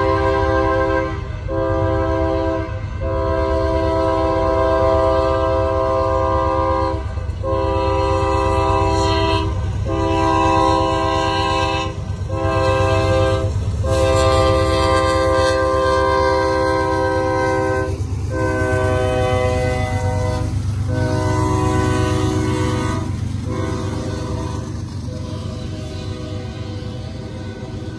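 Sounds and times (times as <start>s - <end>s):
locomotive air horn blasts: 0.0s - 27.9s
train low rumble: 0.0s - 27.9s.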